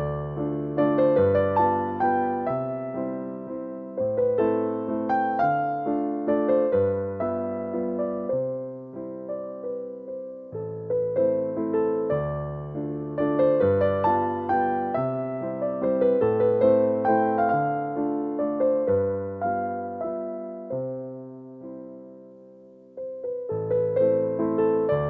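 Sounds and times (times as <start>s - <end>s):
solo piano waltz: 0.0s - 25.0s.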